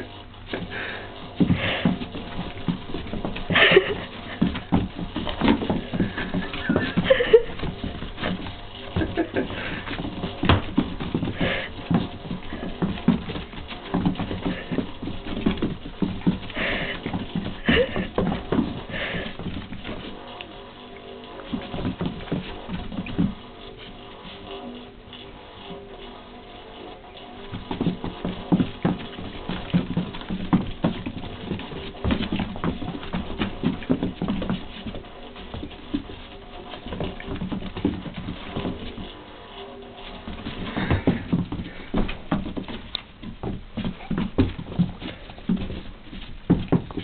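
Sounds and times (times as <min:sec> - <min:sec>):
dog paws scrambling on hard floor: 0:00.0 - 0:47.0.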